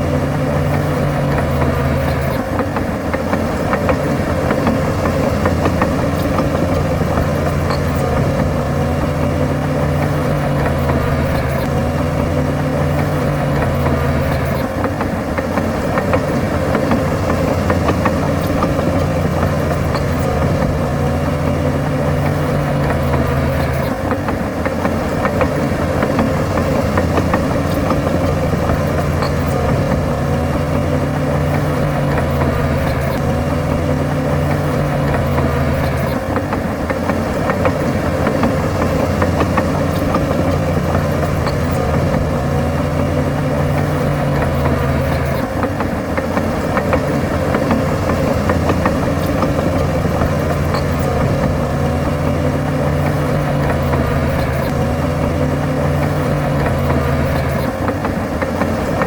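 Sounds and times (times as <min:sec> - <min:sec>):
bulldozer diesel engine running: 0:00.0 - 0:59.0
faint clanking: 0:00.0 - 0:59.0.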